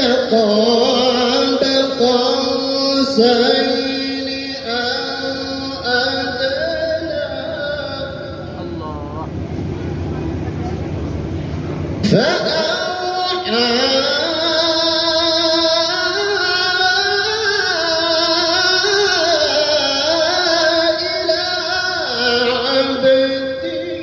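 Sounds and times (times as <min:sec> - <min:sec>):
man reciting melodically: 0:00.0 - 0:09.4, 0:12.0 - 0:24.0.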